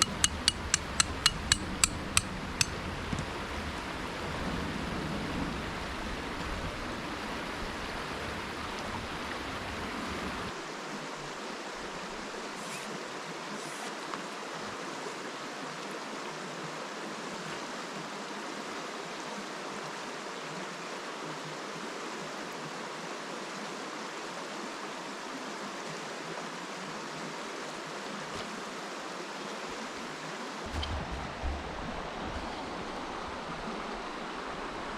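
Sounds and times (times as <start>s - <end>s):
river flowing: 0.0s - 34.9s.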